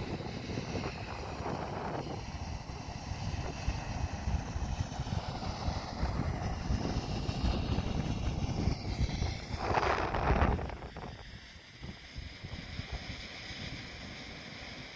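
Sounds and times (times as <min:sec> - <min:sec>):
wind buffeting microphone: 0:00.0 - 0:13.1
steam hissing from vent: 0:00.0 - 0:14.9.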